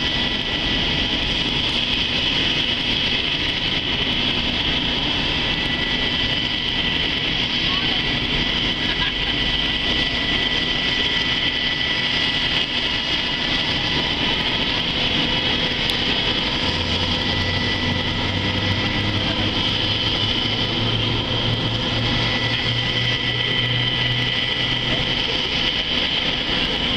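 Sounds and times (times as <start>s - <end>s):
helicopter engine whine: 0.0s - 26.9s.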